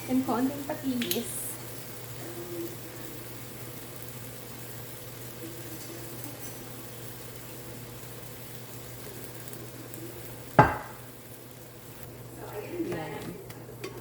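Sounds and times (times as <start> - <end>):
sauce simmering in a pan: 0.0 - 14.0.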